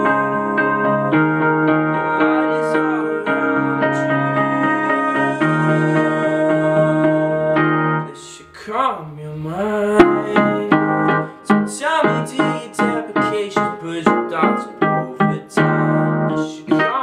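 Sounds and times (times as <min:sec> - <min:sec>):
electric keyboard chords: 0:00.0 - 0:08.5, 0:09.8 - 0:17.0
man singing: 0:00.0 - 0:17.0.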